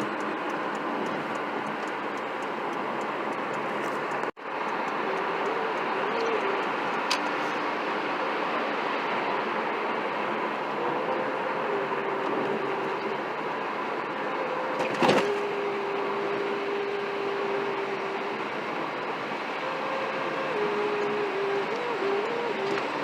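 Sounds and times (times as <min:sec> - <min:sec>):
vehicle road noise: 0:00.0 - 0:23.0.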